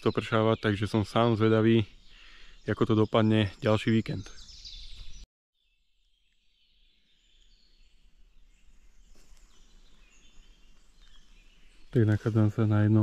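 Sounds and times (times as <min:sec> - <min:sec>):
distant birds chirping: 0:00.0 - 0:13.0
faint forest ambience: 0:00.0 - 0:13.0.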